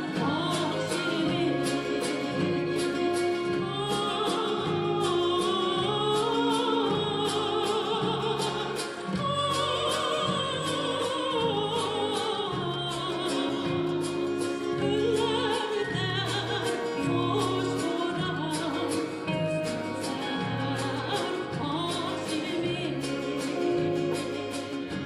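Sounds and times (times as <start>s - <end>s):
instrumental accompaniment: 0.0s - 25.0s
person singing with vibrato: 0.0s - 25.0s.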